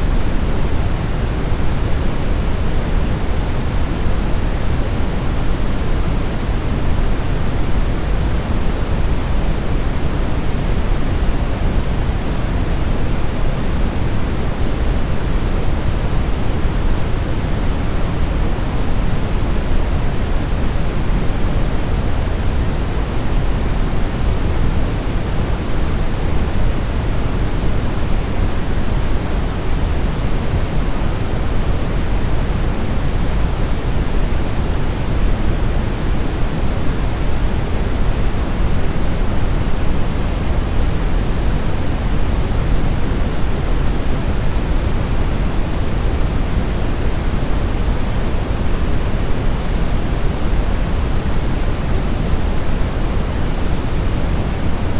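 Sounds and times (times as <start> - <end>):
brown noise rumbling hiss: 0.0 - 54.9.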